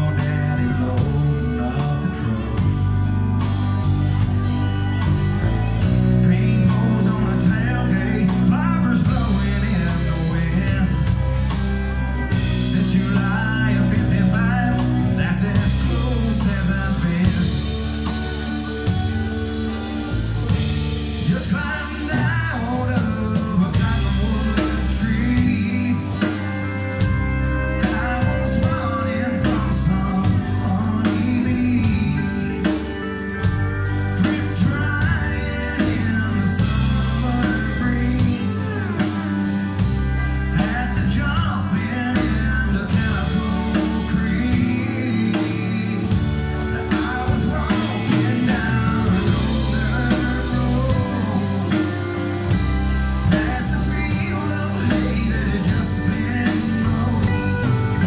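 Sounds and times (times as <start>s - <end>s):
live country band playing: 0.0s - 58.0s.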